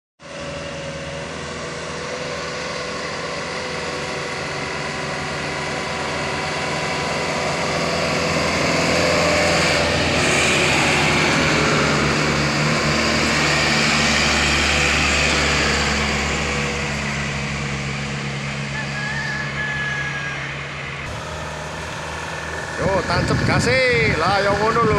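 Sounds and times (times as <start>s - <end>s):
truck diesel engines labouring: 0.2s - 24.9s.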